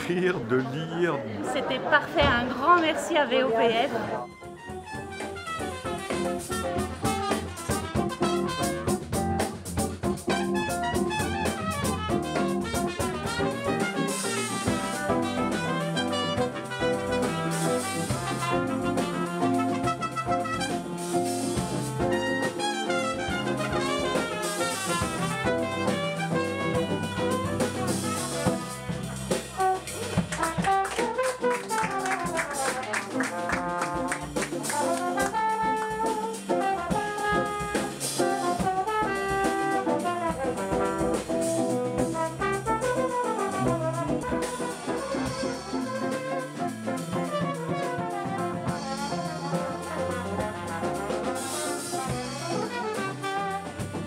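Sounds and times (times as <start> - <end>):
drum kit: 0.0 - 0.8, 4.2 - 54.0
trombone: 3.0 - 54.0
trumpet: 3.0 - 54.0.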